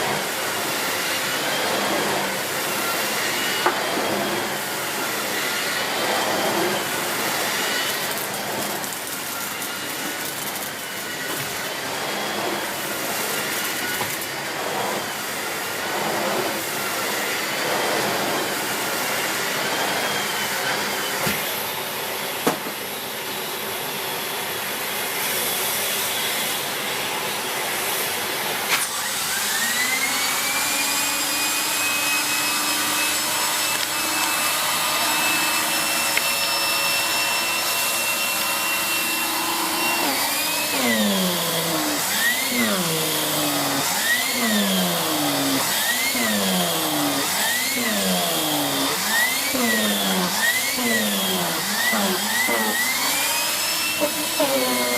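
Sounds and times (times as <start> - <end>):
vacuum cleaner running: 0.0 - 54.9
vacuum cleaner whine: 0.0 - 54.9.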